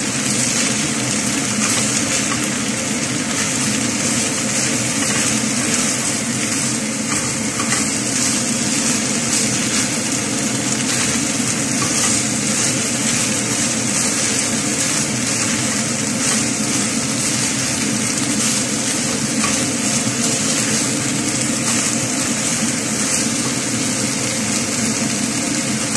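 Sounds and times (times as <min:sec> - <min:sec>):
food sizzling in a frying pan: 0:00.0 - 0:25.9
steady low hum: 0:00.0 - 0:25.9.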